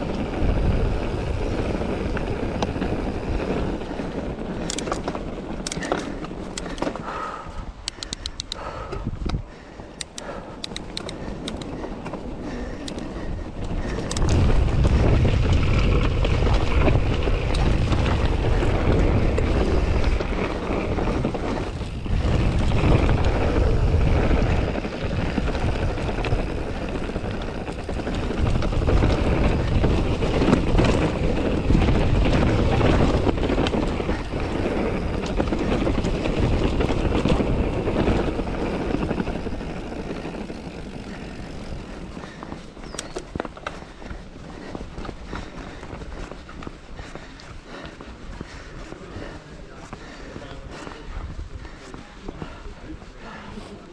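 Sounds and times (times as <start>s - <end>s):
bike tyres and frame rattling: 0.0s - 53.9s
wind buffeting microphone: 0.0s - 53.9s.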